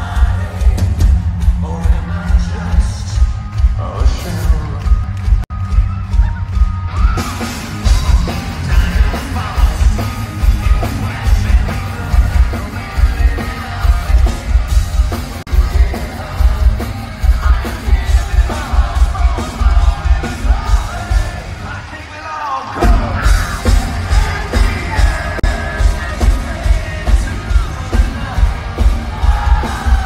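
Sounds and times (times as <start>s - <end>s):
singer's vocals: 0.0s - 5.4s, 7.1s - 30.0s
live hard rock band: 0.0s - 30.0s.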